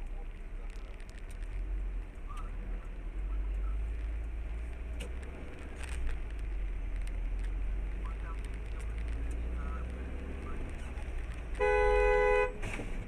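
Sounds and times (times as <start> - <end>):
car driving on road: 0.0 - 13.0.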